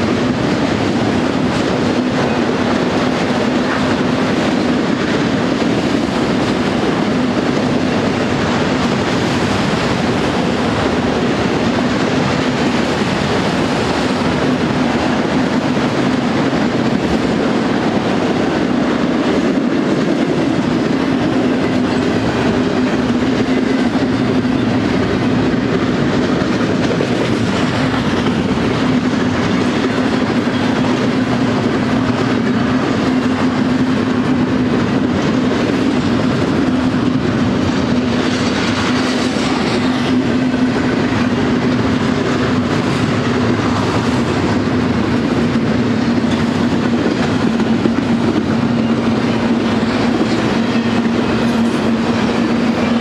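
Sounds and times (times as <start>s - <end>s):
steel wheels running on rails: 0.0s - 53.0s.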